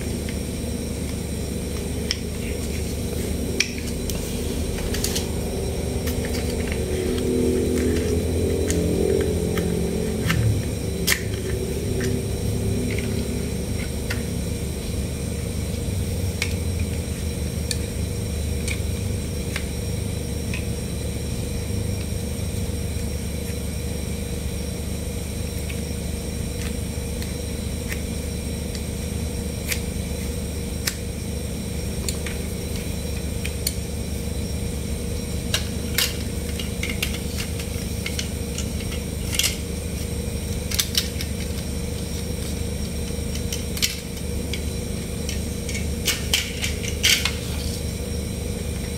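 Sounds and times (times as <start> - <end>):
steady background hum: 0.0 - 48.9.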